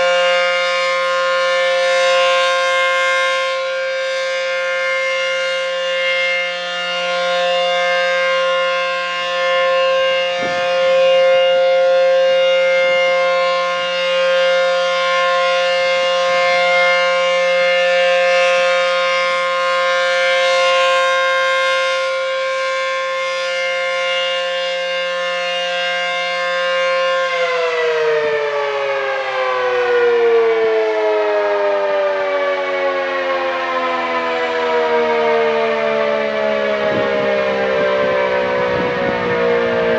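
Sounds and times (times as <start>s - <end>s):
storm siren steady tone: 0.0s - 39.9s.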